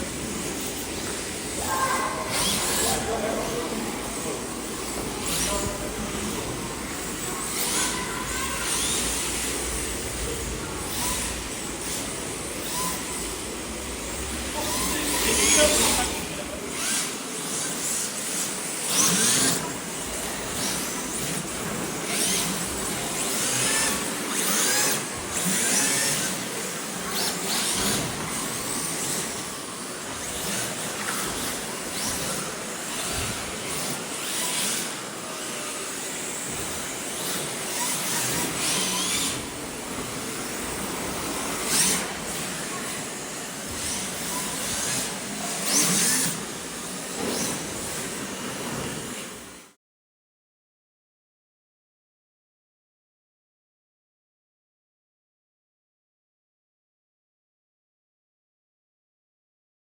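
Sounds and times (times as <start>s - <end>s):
rc car motors whining: 0.0s - 49.8s.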